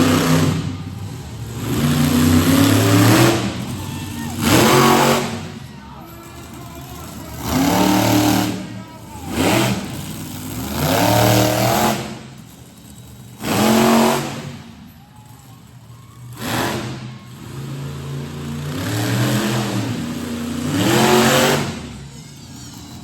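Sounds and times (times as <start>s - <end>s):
engines idling: 0.0s - 23.0s
monster truck engines revving: 0.0s - 23.0s.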